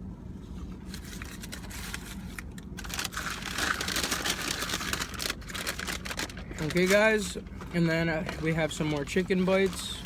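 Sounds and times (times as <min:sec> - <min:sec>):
steady low hum: 0:00.0 - 0:10.0
paper bag rustling: 0:00.8 - 0:10.0.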